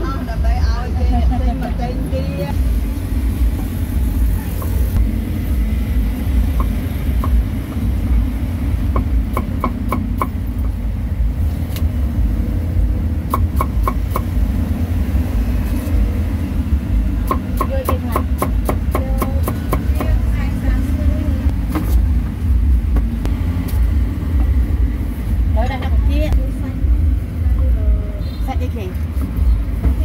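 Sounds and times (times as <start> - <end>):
low rumble of street traffic: 0.0 - 30.0.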